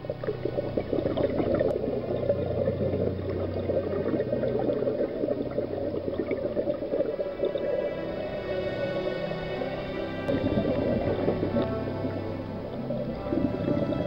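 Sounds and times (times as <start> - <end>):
air bubbling underwater: 0.0 - 7.9, 10.3 - 14.0.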